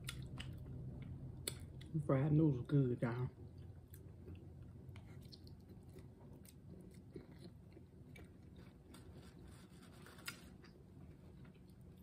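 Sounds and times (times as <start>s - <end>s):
person chewing noodles: 0.0s - 2.0s, 3.5s - 12.0s.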